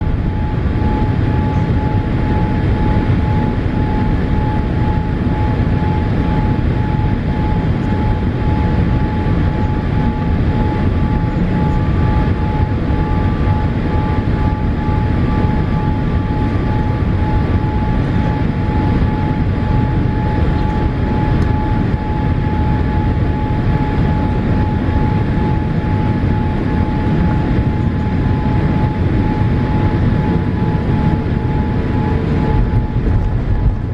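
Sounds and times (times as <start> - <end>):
airflow and engine noise: 0.0 - 33.9
thin steady whine: 0.0 - 33.9.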